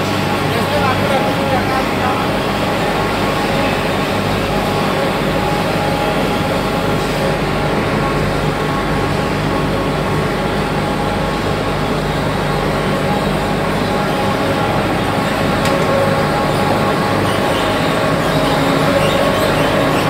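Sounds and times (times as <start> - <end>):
machinery droning and humming: 0.0 - 20.0.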